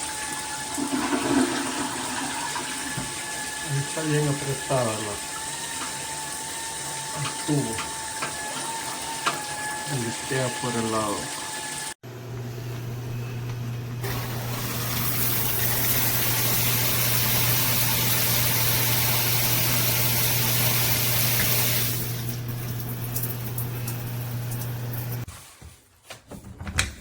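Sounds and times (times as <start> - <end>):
shower spraying water: 0.0 - 12.0, 13.9 - 25.3.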